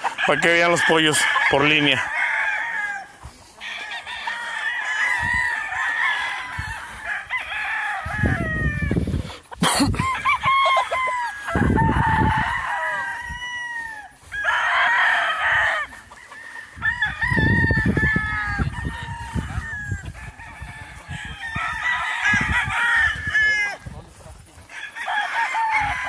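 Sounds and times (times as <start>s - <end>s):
roosters crowing: 0.0s - 26.0s.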